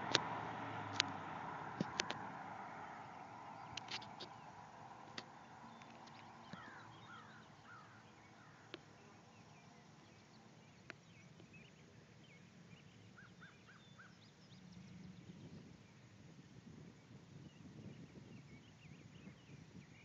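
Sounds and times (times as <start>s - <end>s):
faint birdsong: 0.0s - 20.0s
rural outdoor ambience: 0.0s - 20.0s.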